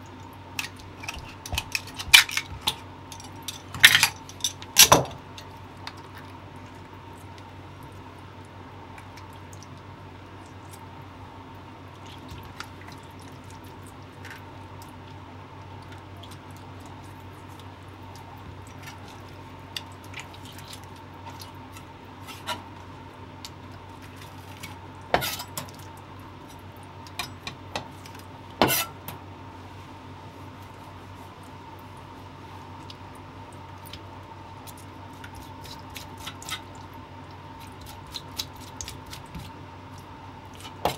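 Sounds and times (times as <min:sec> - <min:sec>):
steady background hum: 0:00.0 - 0:40.9.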